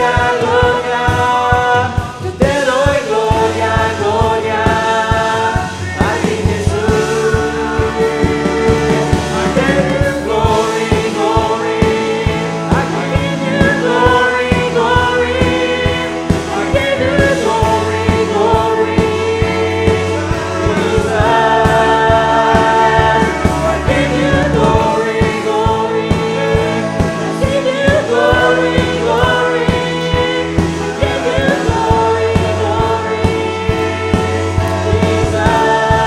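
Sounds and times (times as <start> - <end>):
drum kit: 0.0 - 36.0
electric guitar: 0.0 - 36.0
keyboard: 0.0 - 36.0
person singing: 0.0 - 36.0.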